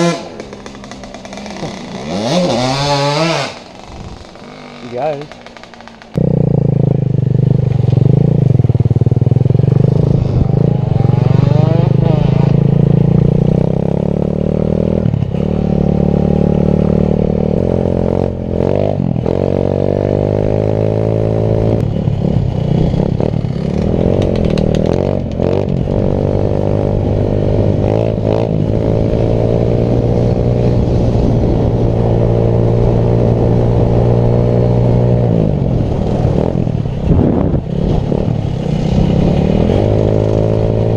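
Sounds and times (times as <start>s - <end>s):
small engine revving: 0.0s - 8.5s, 9.6s - 35.6s.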